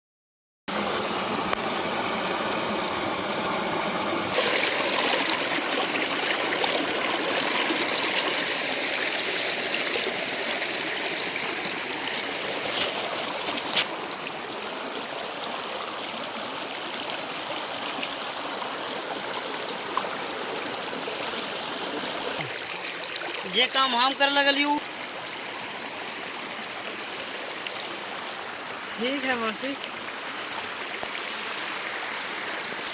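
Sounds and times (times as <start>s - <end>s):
running water rushing: 0.7s - 32.9s.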